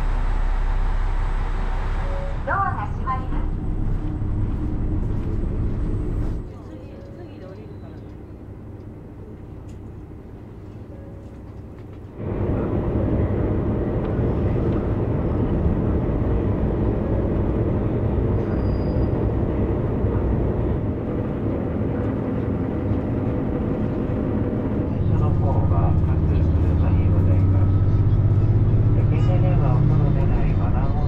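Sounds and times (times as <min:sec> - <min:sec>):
diesel train cabin hum: 0:00.0 - 0:31.0
train running rumble: 0:00.0 - 0:31.0.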